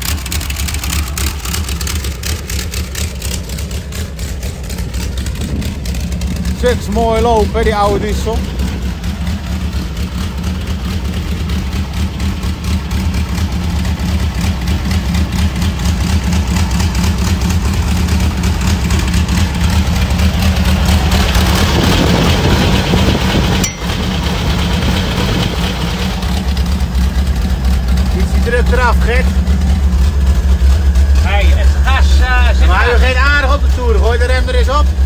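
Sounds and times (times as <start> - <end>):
helicopter piston engine running: 0.0 - 35.0.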